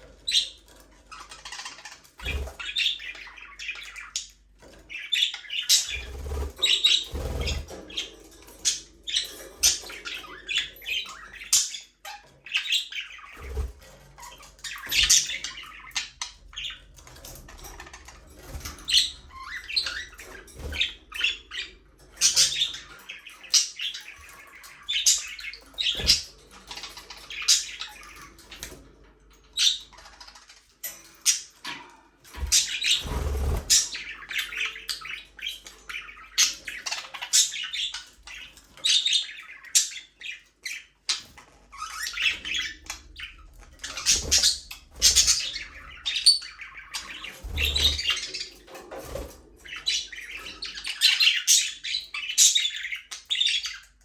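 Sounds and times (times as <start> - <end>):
budgerigars chattering: 0.0 - 28.8, 31.2 - 54.0.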